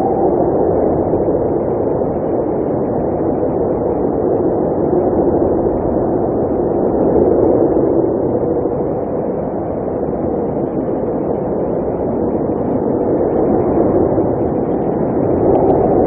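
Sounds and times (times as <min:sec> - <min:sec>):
blizzard wind blowing: 0:00.0 - 0:16.0.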